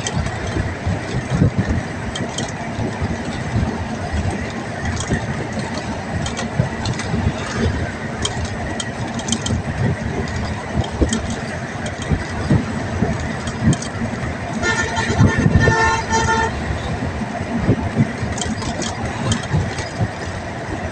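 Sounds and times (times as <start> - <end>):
light clicks and rattles: 0.0 - 14.6, 18.0 - 20.5
vehicle ride rumble: 0.0 - 20.9.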